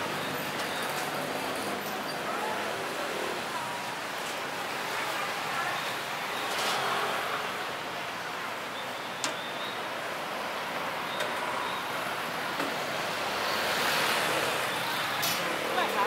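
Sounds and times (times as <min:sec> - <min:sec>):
crowd noise: 0:00.0 - 0:16.0
traffic: 0:00.0 - 0:16.0.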